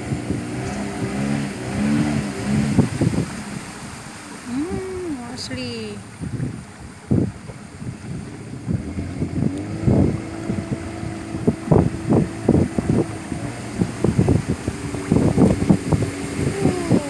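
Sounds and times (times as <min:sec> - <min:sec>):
outboard motor running: 0:00.0 - 0:17.0
wind buffeting microphone: 0:00.0 - 0:17.0.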